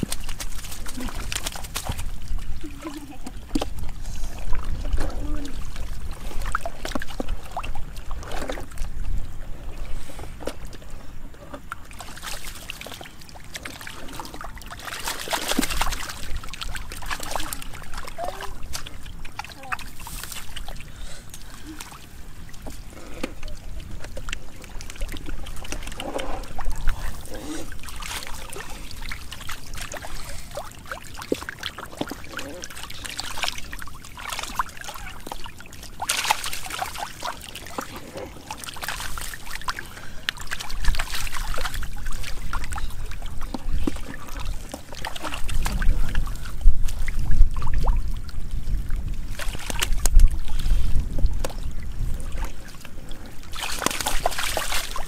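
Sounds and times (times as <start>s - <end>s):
fish thrashing in water: 0.0s - 9.3s, 11.5s - 55.0s
splashing in shallow water: 0.0s - 55.0s.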